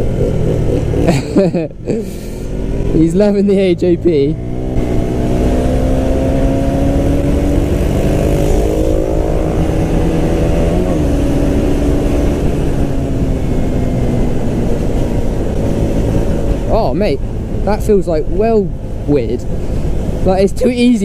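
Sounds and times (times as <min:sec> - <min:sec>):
motorcycle engine accelerating: 0:00.0 - 0:20.5.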